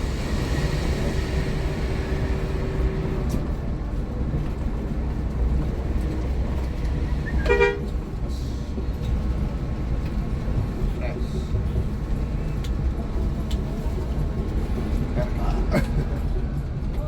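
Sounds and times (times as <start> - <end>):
coach engine drone: 0.0 - 17.0
road noise: 0.0 - 17.0.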